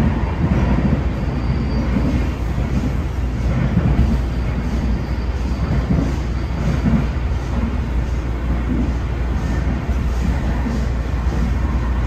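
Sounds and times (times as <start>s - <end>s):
rail car wheels rumbling on track: 0.0s - 12.0s.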